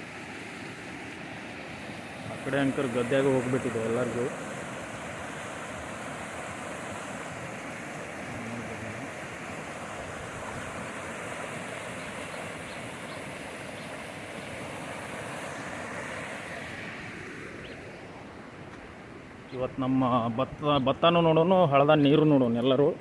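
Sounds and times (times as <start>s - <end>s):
water rushing in a stream: 0.0s - 20.7s.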